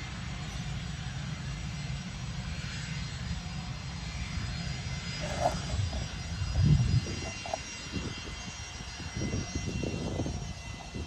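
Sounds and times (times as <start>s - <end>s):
distant jet engines whining: 0.0s - 11.0s.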